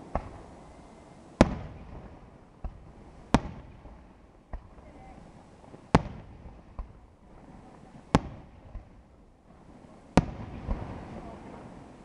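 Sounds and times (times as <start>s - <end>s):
fireworks bangs echoing: 0.0s - 0.5s, 1.4s - 11.9s
fainter fireworks bangs: 0.0s - 0.8s, 1.4s - 12.0s.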